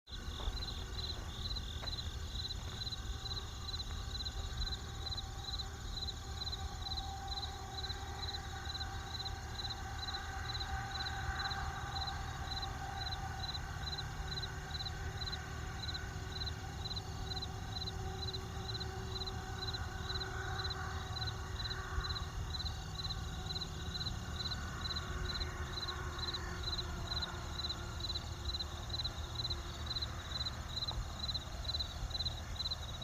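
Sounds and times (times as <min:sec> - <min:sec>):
crickets chirping: 0:00.1 - 0:33.0
distant traffic rumble: 0:00.1 - 0:33.0.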